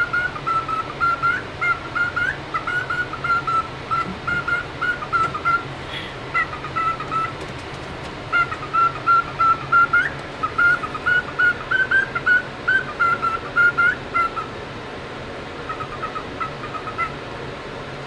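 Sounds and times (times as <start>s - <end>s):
cockatiel chirping: 0.0s - 7.4s, 8.3s - 14.5s, 15.7s - 17.2s.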